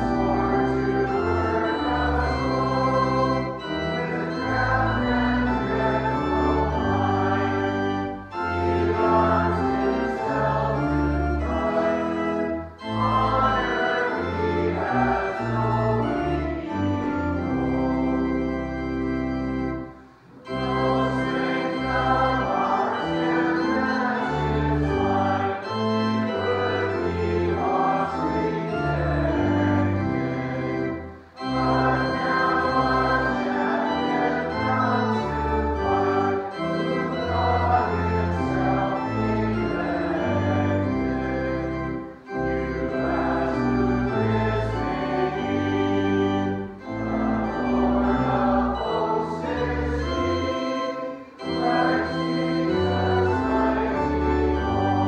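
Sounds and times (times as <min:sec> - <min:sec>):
church organ playing chords: 0:00.0 - 0:55.0
congregation singing: 0:00.0 - 0:55.0.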